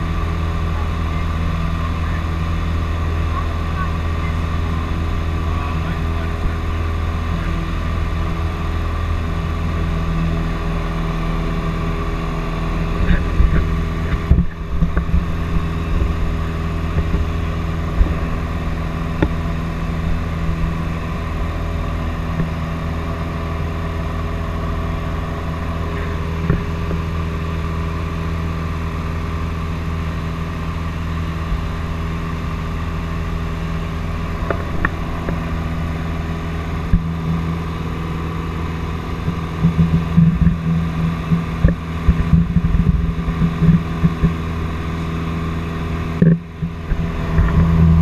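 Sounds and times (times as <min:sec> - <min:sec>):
light aircraft engine droning: 0:00.0 - 0:48.0.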